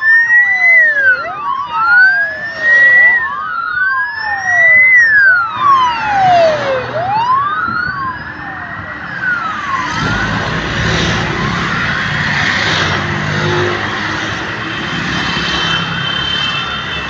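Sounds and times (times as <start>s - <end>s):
motorcycle engines droning: 0.0s - 17.0s
police sirens wailing: 0.0s - 17.0s.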